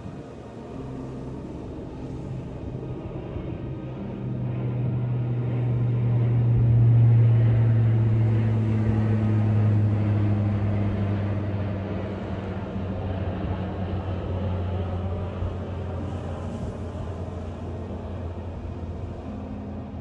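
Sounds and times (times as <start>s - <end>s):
engine drone passing by: 0.0s - 20.0s.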